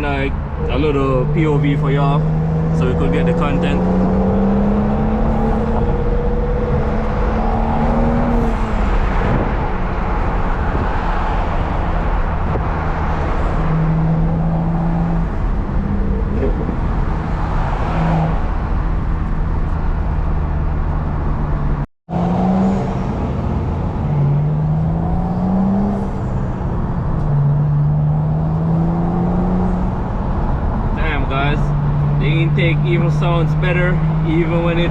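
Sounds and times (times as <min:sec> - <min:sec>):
car engine changing gears: 0:00.0 - 0:34.9.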